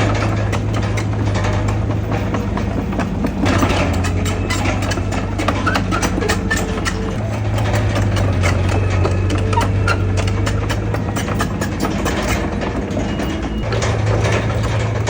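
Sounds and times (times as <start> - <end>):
diesel engine running: 0.0 - 15.0
metallic clicks and clanks: 0.0 - 15.0.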